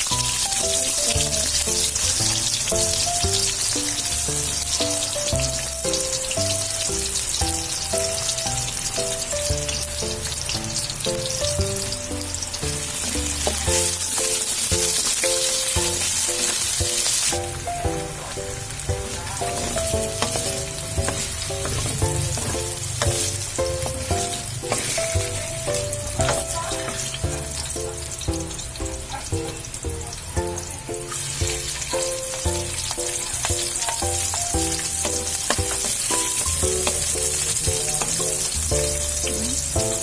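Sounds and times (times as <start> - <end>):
background music with a beat: 0.0 - 40.0
fish sizzling in hot oil: 0.0 - 40.0.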